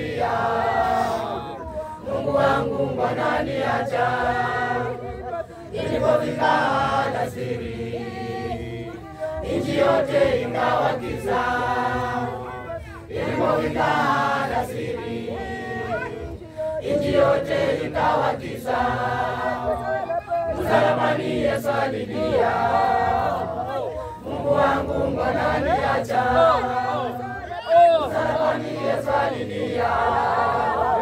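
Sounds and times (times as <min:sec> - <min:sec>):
women's choir singing a hymn: 0:00.0 - 0:31.0.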